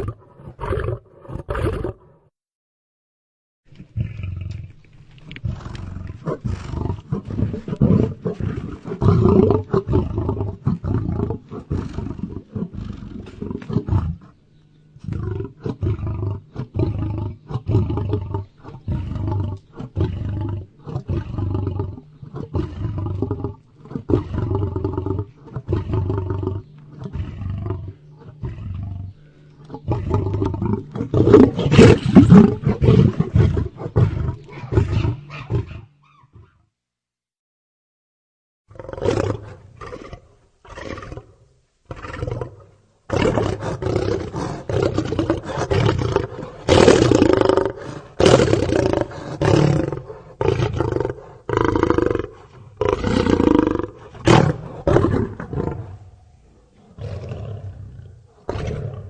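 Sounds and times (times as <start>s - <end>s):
lion roaring: 5.3s - 14.4s, 15.0s - 36.6s, 41.9s - 59.0s.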